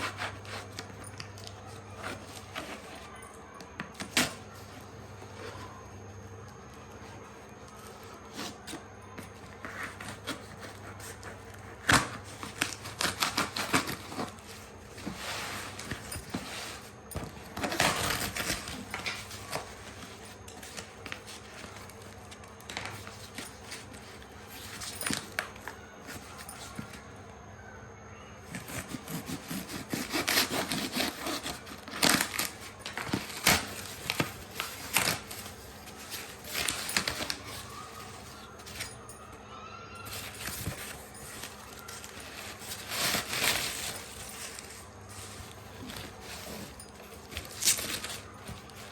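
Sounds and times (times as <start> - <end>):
packaging rustling and crinkling: 0.0 - 27.2, 28.4 - 39.4, 40.0 - 48.9.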